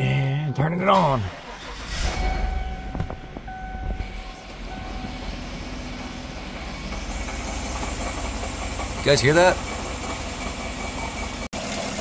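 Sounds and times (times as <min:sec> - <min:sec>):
engine starting and idling: 0:00.8 - 0:12.0.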